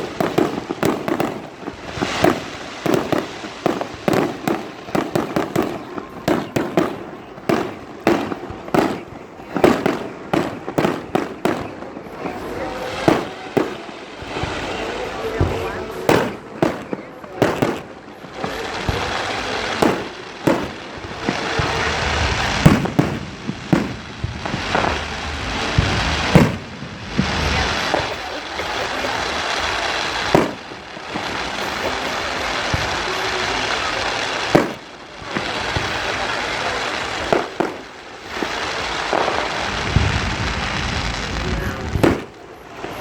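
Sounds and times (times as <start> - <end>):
fireworks bangs: 0.0 - 43.0
fireworks crackling hiss: 0.0 - 43.0.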